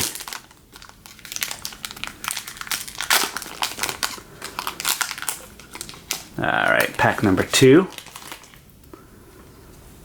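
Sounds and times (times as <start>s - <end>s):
plastic wrapper crinkling: 0.0s - 8.9s.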